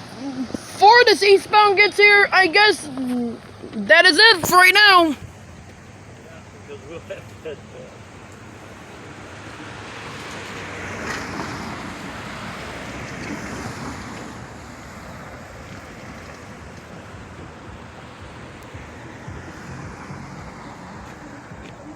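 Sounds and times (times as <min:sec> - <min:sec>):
road traffic rushing past: 0:00.0 - 0:21.9.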